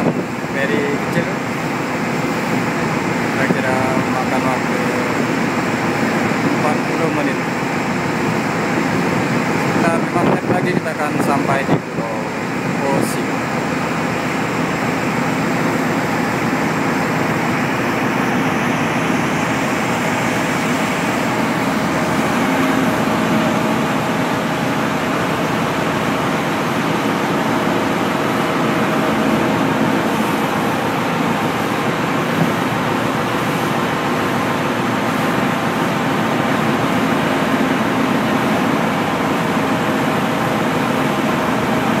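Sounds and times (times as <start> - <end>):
ship engine hum: 0.0 - 42.0
wake churning along hull: 0.0 - 42.0
wind: 0.0 - 42.0.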